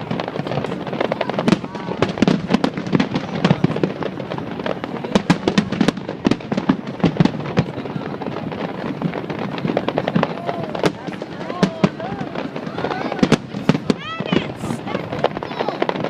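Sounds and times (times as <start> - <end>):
fireworks cracking and booming: 0.0 - 16.0.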